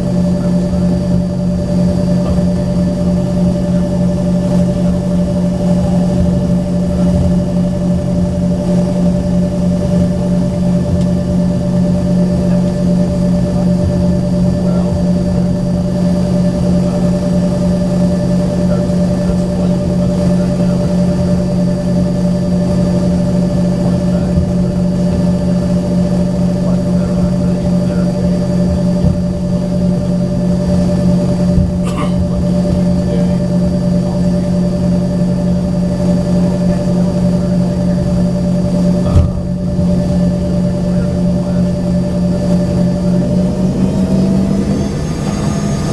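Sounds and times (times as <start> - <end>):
jet engines idling in cabin: 0.0 - 45.9.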